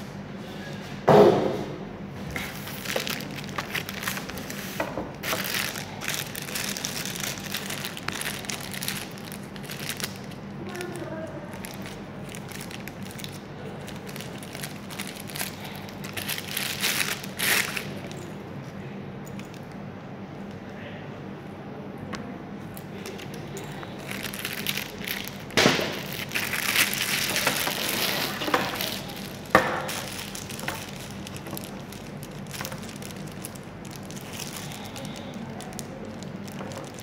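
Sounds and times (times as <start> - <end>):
steady low hum: 0.0 - 37.0
plastic bag crinkling: 2.4 - 18.7, 22.7 - 37.0.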